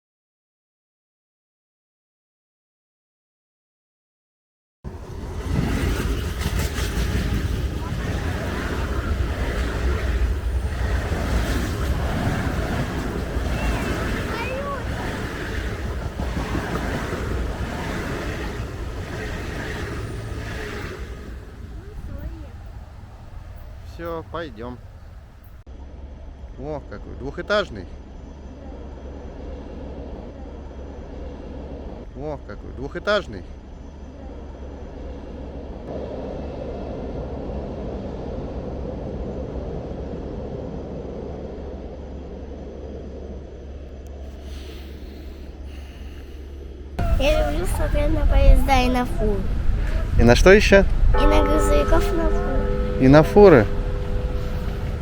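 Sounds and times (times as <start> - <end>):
train passing rumbling: 4.9 - 55.0.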